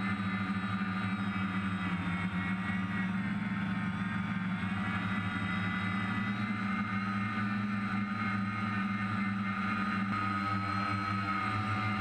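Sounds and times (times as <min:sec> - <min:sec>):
drone motors humming and whining: 0:00.0 - 0:12.0.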